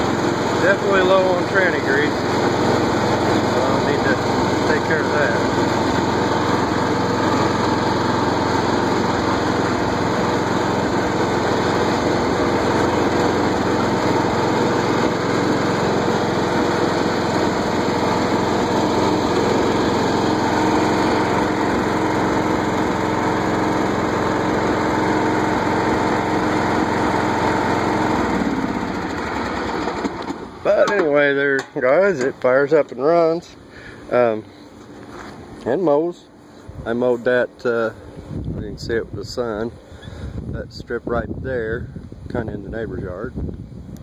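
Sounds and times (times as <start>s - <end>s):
riding mower engine running: 0.0s - 44.0s.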